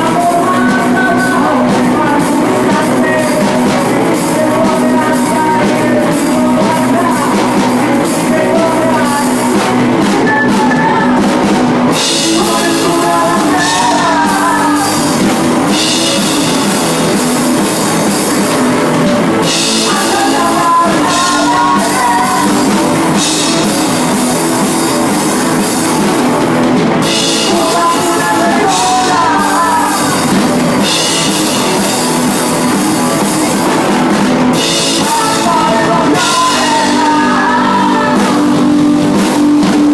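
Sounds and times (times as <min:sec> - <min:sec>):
person singing: 0:00.0 - 0:26.1, 0:27.0 - 0:39.9
drum kit with cymbals: 0:00.0 - 0:39.9
electric guitars: 0:00.0 - 0:39.9.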